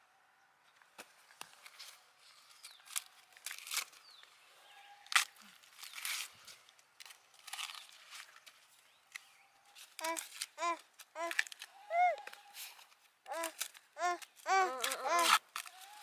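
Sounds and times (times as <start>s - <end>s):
leaves rustling and crunching: 1.4s - 16.0s.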